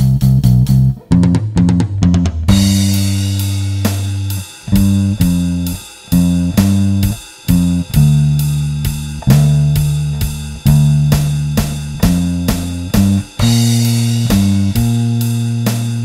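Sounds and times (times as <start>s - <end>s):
electric bass notes: 0.0s - 16.0s
steady drum beat: 0.0s - 16.0s.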